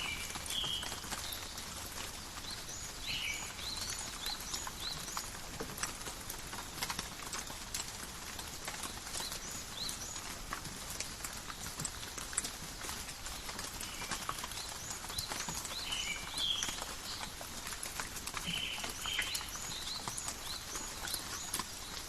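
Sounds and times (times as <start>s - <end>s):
light rain in a forest: 0.0s - 22.0s.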